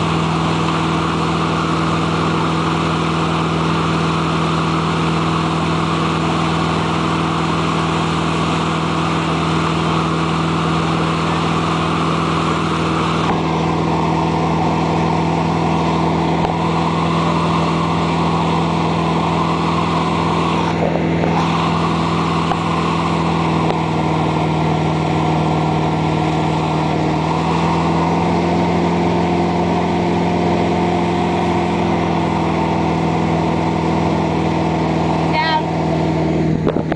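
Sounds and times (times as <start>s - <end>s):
churning wake water: 0.0s - 36.9s
motorboat engine running: 0.0s - 36.9s.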